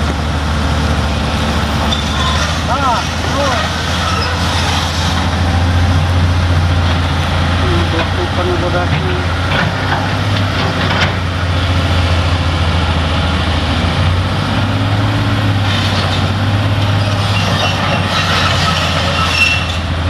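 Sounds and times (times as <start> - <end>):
excavator diesel engine humming: 0.0 - 20.0.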